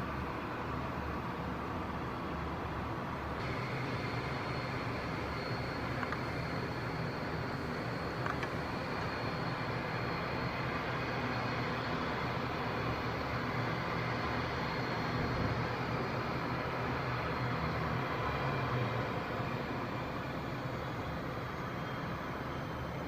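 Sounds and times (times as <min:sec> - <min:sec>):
airliner engines running: 0:00.0 - 0:23.0.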